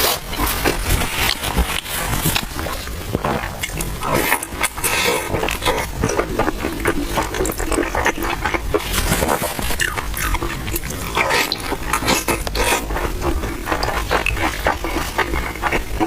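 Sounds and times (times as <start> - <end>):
chewing and lip-smacking: 0.0 - 16.0
crunching bun: 0.0 - 16.0
low steady hum: 0.0 - 16.0.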